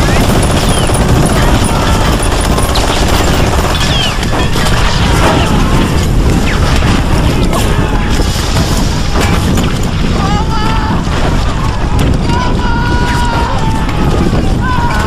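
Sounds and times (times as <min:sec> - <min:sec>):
bike rattling over rough ground: 0:00.0 - 0:15.0
wind buffeting microphone: 0:00.0 - 0:15.0.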